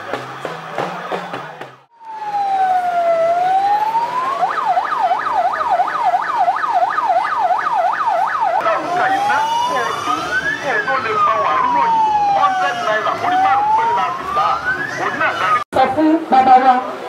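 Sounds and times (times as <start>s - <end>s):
electronic siren wailing and yelping: 2.0s - 15.7s.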